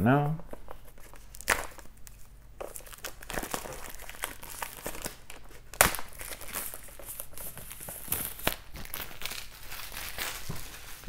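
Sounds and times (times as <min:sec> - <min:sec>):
plastic wrap crinkling: 0:00.5 - 0:11.0.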